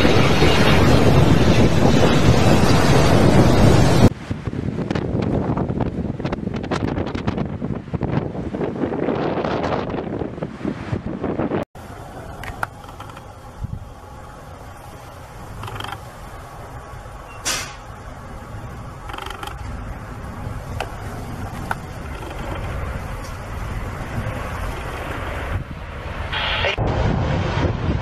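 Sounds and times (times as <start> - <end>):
jet airliner rumble: 0.0 - 28.0
wind buffeting microphone: 0.0 - 28.0.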